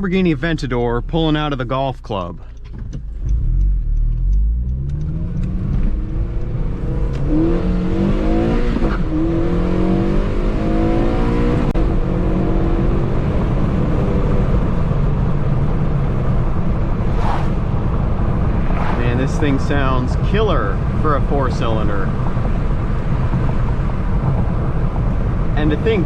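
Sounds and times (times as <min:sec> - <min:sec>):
car engine accelerating hard: 0:02.9 - 0:26.0.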